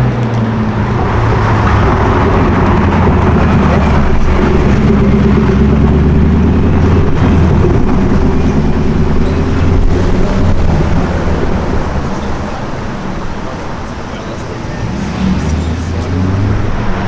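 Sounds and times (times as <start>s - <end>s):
car engine running loudly: 0.0s - 17.0s.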